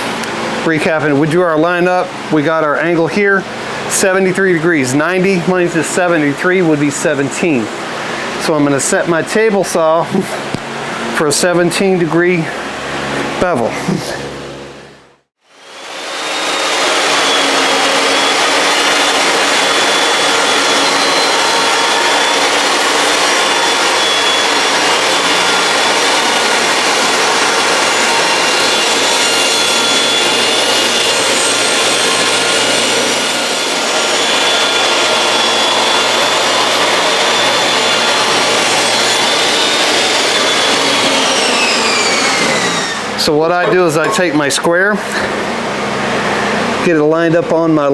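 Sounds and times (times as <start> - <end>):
table saw whining: 0.0 - 47.9.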